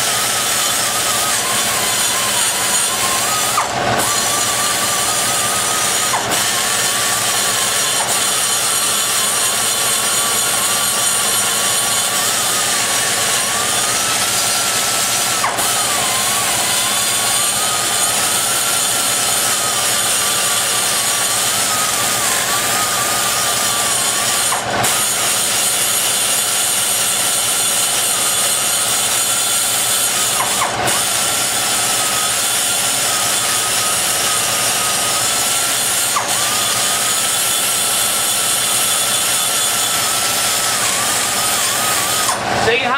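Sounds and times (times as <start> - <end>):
die grinder cutting metal: 0.0 - 42.9.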